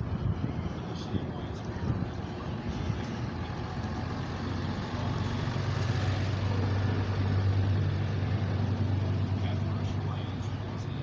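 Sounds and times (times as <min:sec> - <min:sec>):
traffic noise: 0:00.0 - 0:11.0
vehicle engine running: 0:00.0 - 0:11.0.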